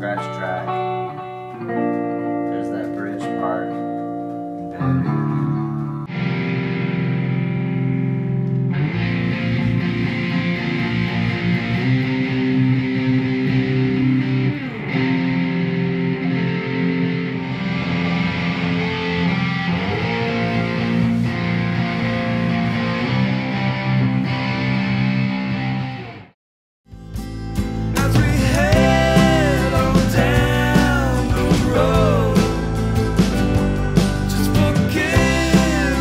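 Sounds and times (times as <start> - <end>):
electric guitar rock chords: 0.0 - 26.3, 26.9 - 36.0.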